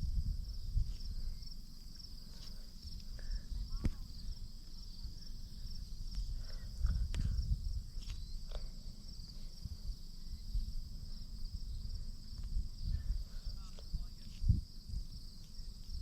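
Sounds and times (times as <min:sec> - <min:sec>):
low rumbling noise: 0:00.0 - 0:15.2
insects chirping: 0:00.0 - 0:16.0.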